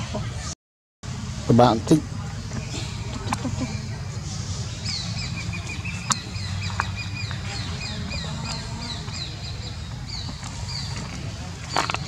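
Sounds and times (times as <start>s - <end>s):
birds chirping: 2.1s - 12.0s.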